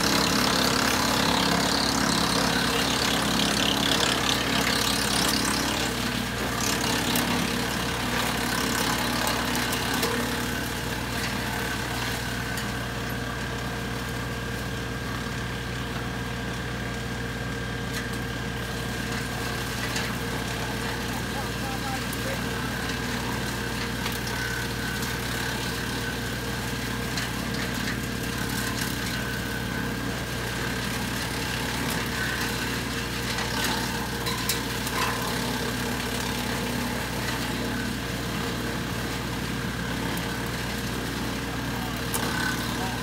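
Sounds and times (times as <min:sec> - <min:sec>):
branches cracking in chipper: 0:00.0 - 0:43.0
tractor diesel engine running: 0:00.0 - 0:43.0
wood chipper: 0:00.0 - 0:43.0.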